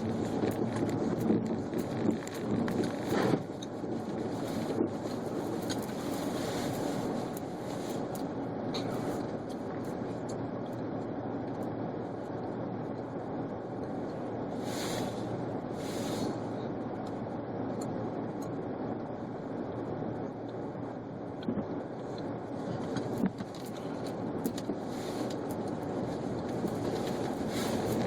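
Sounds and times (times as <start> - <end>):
car engine and tyres in snow: 0.0 - 28.0.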